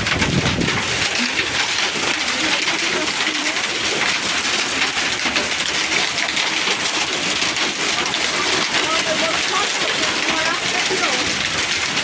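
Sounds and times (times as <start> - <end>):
hail hitting surfaces: 0.0 - 12.0.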